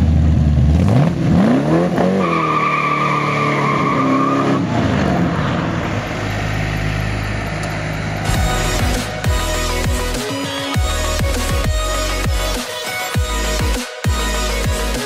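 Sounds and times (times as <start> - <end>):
car engine revving: 0.1 - 12.6.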